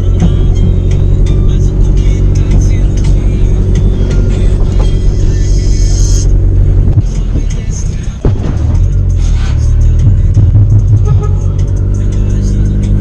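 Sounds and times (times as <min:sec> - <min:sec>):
loud bass-heavy car stereo music: 0:00.0 - 0:13.0.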